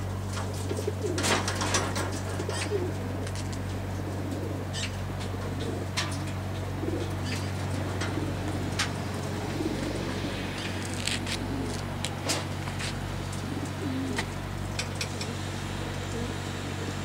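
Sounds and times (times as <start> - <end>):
pigeons cooing: 0.0 - 17.0
steady low hum: 0.0 - 17.0.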